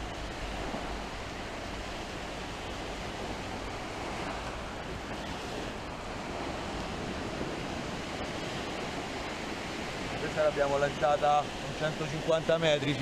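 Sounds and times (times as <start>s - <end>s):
small waves washing up beach: 0.0s - 13.0s
wind rumble on microphone: 0.0s - 13.0s.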